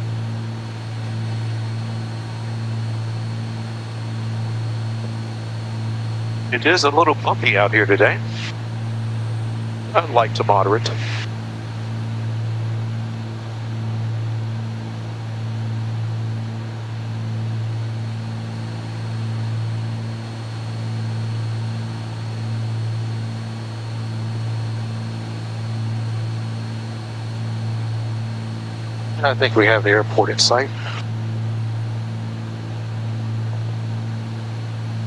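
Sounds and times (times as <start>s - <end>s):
airplane engines droning: 0.0s - 35.0s.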